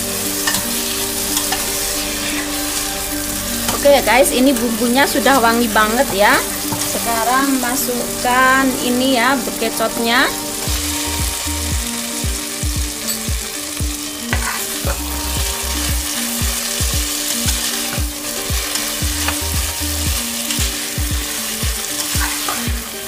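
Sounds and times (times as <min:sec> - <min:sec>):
spatula stirring: 0:00.0 - 0:08.2, 0:10.4 - 0:23.0
food sizzling in hot oil: 0:00.0 - 0:23.0.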